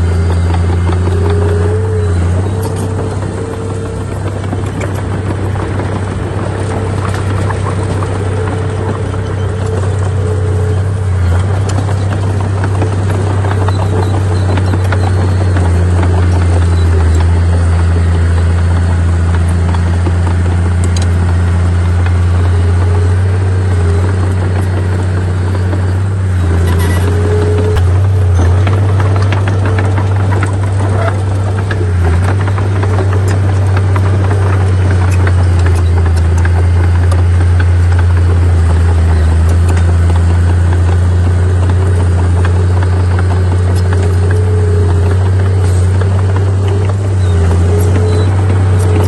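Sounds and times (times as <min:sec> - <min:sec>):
heavy diesel machinery engine drone: 0:00.0 - 0:49.0.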